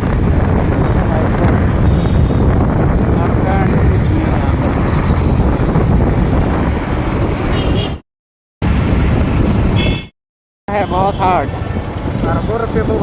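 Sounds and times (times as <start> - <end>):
road and traffic noise: 0.0 - 8.0, 8.6 - 10.1, 10.7 - 13.0
wind buffeting microphone: 0.0 - 8.0, 8.6 - 10.0, 10.9 - 13.0.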